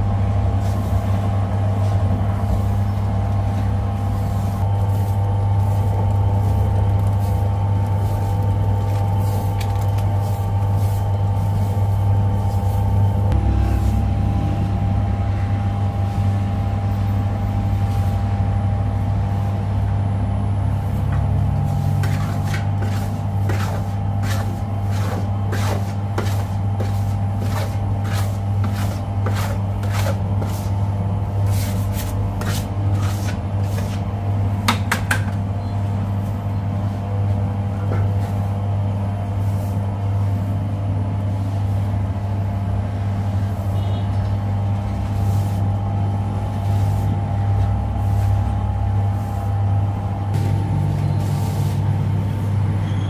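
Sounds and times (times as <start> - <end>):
bakery machinery humming: 0.0 - 53.0.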